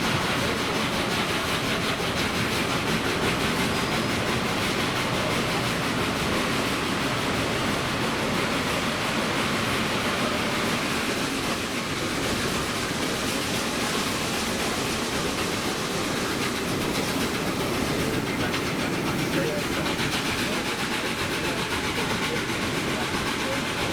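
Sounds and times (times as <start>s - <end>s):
passenger train in motion: 0.0s - 23.9s.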